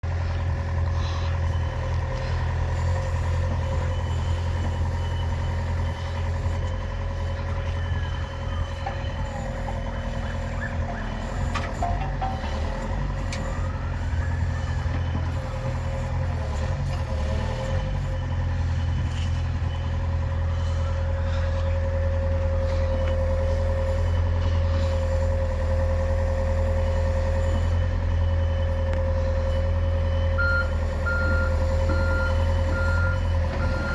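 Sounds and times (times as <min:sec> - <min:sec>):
excavator diesel engine running: 0:00.0 - 0:33.9
faint beeping: 0:01.1 - 0:33.9.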